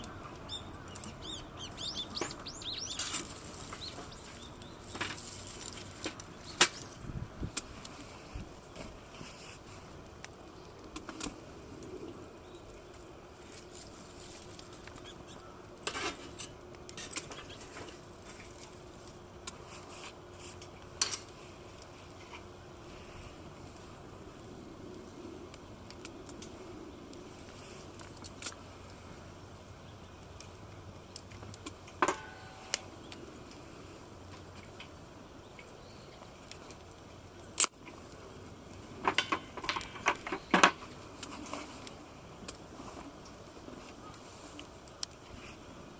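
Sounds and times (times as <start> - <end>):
steady low hiss: 0.0 - 45.9.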